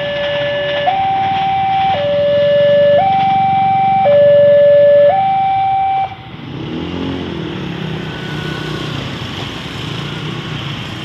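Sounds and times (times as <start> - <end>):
motor scooter engines revving: 0.0 - 11.0.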